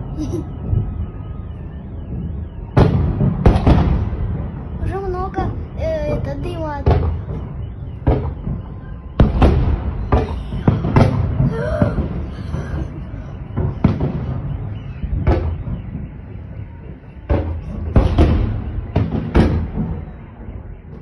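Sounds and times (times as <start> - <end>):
fireworks bangs through window: 0.7 - 5.0, 6.2 - 21.0.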